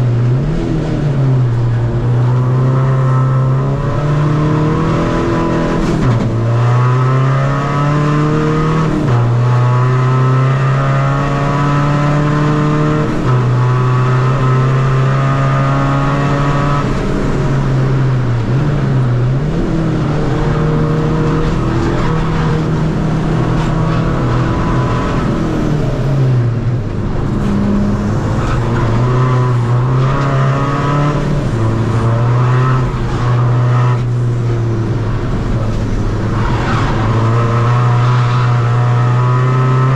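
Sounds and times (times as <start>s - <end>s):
diesel car engine revving: 0.0s - 39.9s.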